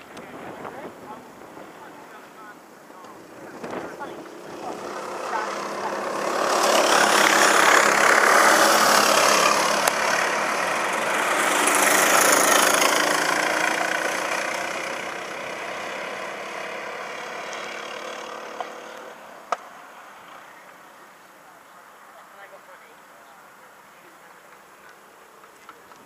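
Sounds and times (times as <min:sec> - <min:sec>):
go-kart engines passing: 0:00.0 - 0:26.0.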